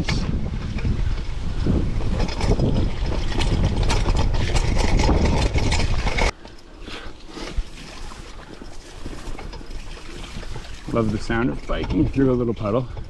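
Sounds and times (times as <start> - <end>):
chain and frame clattering: 0.0 - 6.7, 7.3 - 13.0
mountain bike rattling over trail: 0.0 - 13.0.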